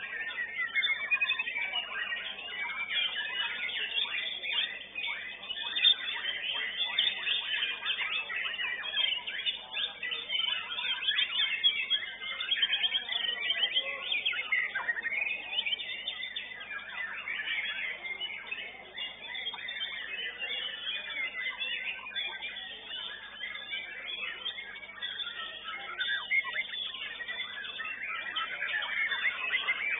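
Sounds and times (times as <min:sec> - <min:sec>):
bird singing chirps and whistles: 0:00.0 - 0:29.9.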